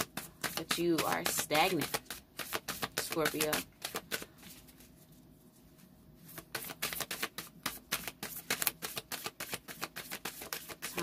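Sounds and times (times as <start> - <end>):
cards being riffled: 0.0 - 5.0, 6.2 - 11.0.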